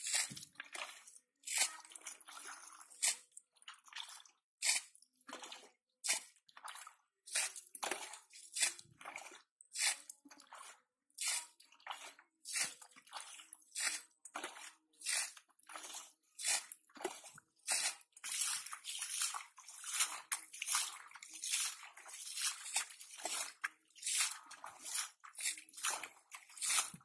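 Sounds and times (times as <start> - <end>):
water scooped and splashing: 0.0 - 27.0.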